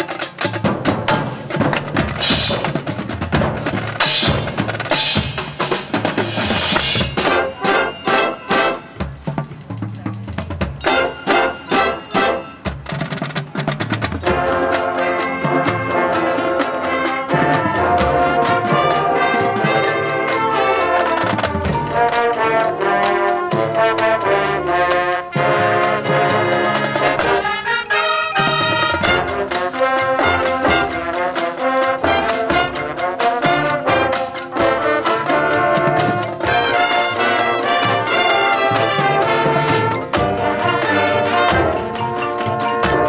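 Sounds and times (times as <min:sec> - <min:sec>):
drums: 0:00.0 - 0:43.0
keyboard percussion: 0:00.0 - 0:43.0
marching band playing: 0:00.0 - 0:43.0
brass section: 0:03.6 - 0:09.2, 0:10.8 - 0:12.8, 0:14.0 - 0:43.0.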